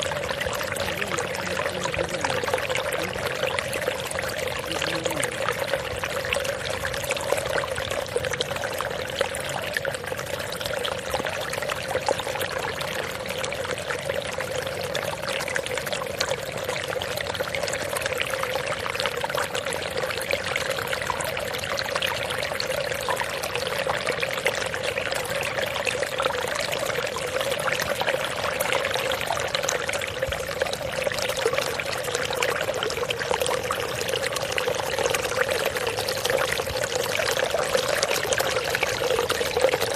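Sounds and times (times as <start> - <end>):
water pouring and gurgling: 0.0 - 39.9.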